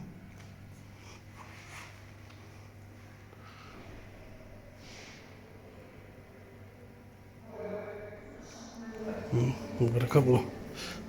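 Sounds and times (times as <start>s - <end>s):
faint distant sounds: 0.0s - 11.0s
low room hum: 0.0s - 11.0s.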